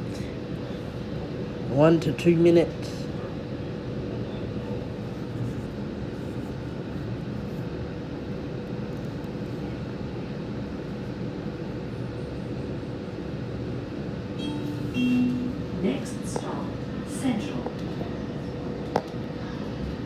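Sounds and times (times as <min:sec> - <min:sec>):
faint constant hum: 0:00.0 - 0:20.0
train running low rumble: 0:00.0 - 0:20.0.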